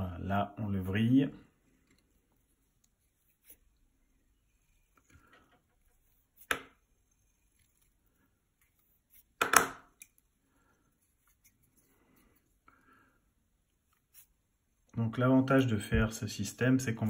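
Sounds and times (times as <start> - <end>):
faint fiddling sounds: 0.7 - 17.0.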